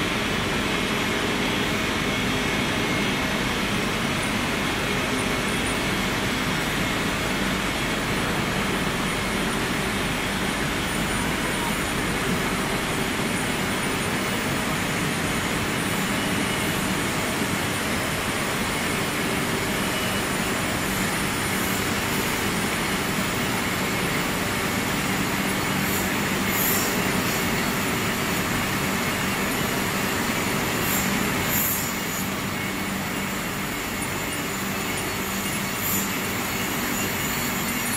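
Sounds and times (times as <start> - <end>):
textile machinery running: 0.1 - 37.9.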